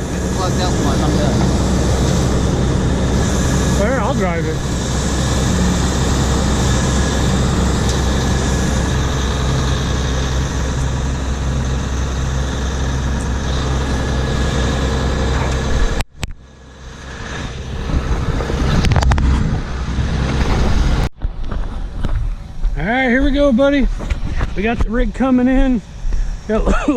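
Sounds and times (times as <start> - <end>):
combine harvester droning: 0.0 - 26.9
vehicle noise: 0.0 - 26.9.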